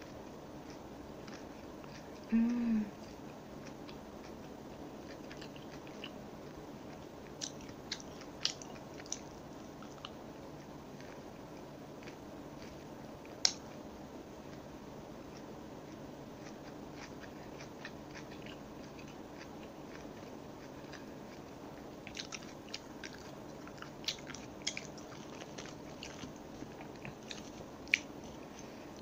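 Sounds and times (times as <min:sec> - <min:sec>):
chewing crispy food: 0:00.0 - 0:29.0
low steady background: 0:00.0 - 0:29.0.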